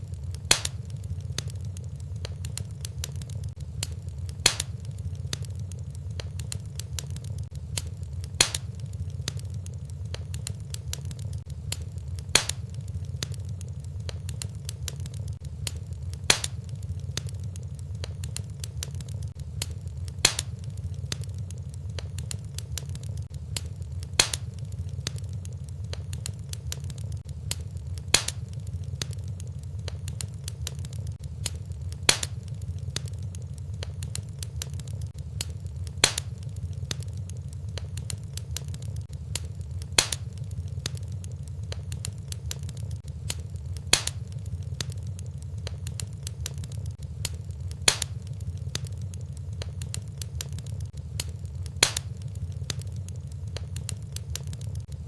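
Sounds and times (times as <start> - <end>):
fire crackling and rumbling: 0.0 - 55.0
sharp fire pops: 0.0 - 55.0.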